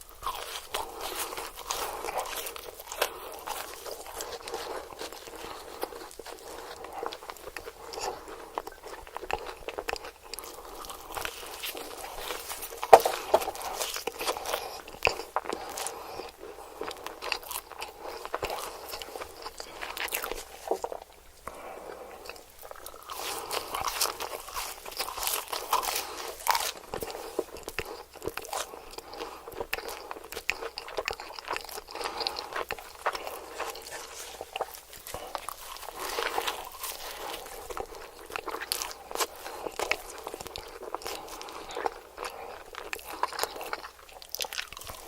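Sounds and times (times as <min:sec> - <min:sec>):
person chewing crisp food: 0:00.0 - 0:45.0.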